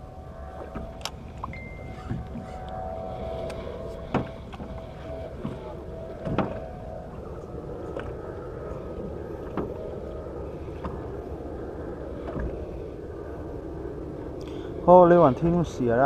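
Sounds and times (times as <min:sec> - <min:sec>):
motorboat engine rumble: 0:00.0 - 0:16.0
water noise: 0:00.0 - 0:16.0.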